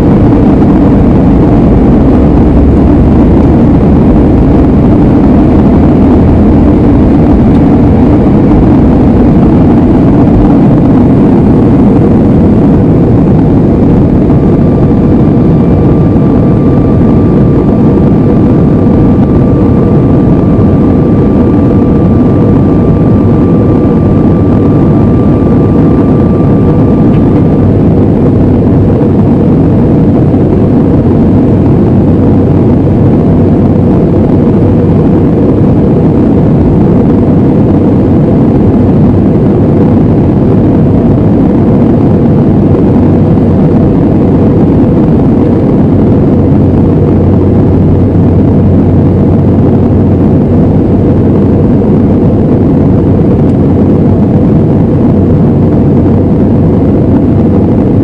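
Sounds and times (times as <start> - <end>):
airliner cabin engine and airflow noise: 0.0 - 58.0
thin steady whine: 0.0 - 58.0.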